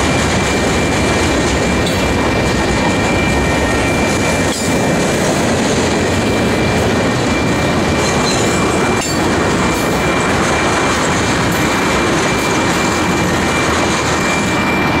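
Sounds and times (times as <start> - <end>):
steel wheels rumbling on track: 0.0 - 15.0.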